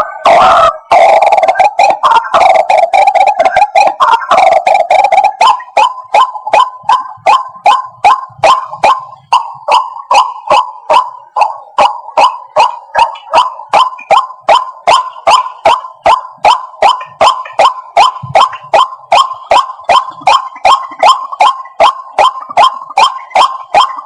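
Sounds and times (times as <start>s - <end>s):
bird calling sharp repeated notes: 0.0s - 24.0s.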